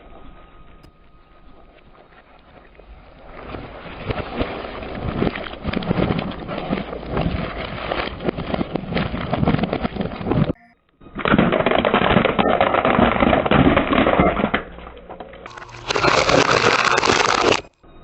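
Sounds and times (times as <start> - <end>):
crunching and cracking: 0.9 - 17.8.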